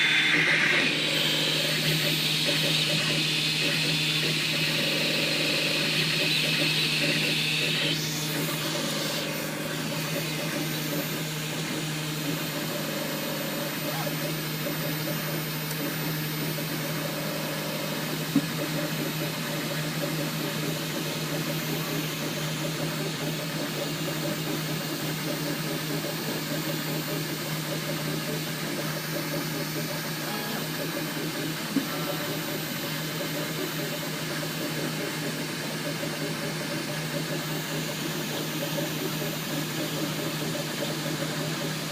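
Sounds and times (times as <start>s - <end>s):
three d printer humming: 0.0s - 41.9s.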